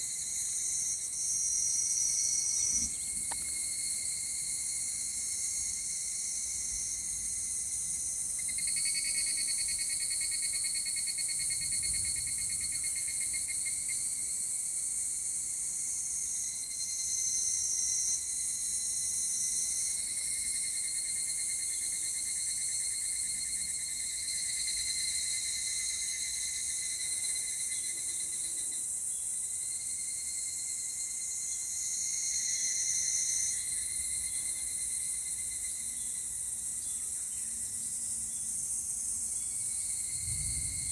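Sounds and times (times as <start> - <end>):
cicadas buzzing: 0.0 - 40.9
loud pulsing cicada song: 0.0 - 40.9.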